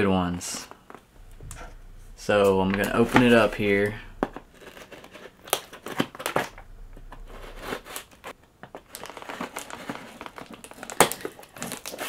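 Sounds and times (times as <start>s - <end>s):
cardboard crackling and crinkling: 1.2s - 12.0s.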